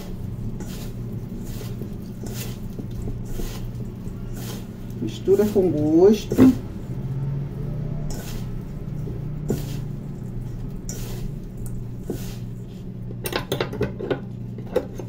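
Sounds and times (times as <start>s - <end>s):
hands kneading crumbly mixture: 0.0s - 13.1s
steady low hum: 0.0s - 15.0s.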